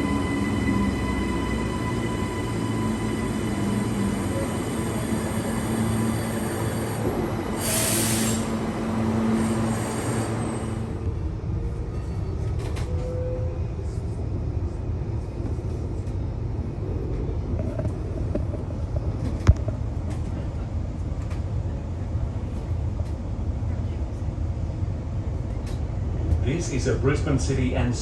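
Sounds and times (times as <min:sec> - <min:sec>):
train hum: 0:00.0 - 0:28.0
train rumbling on rails: 0:00.0 - 0:28.0.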